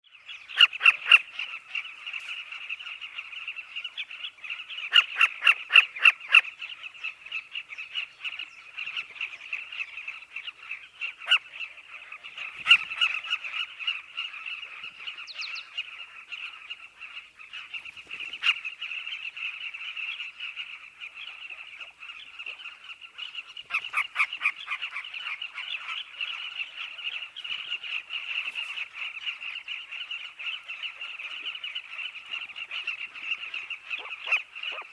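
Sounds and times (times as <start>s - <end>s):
birds chattering: 0.1s - 34.9s.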